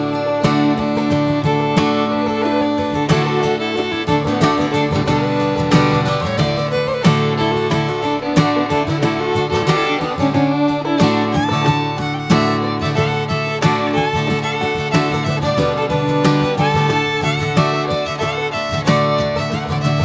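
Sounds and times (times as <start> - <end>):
fiddle: 0.0 - 20.0
plucked guitar: 0.0 - 20.0.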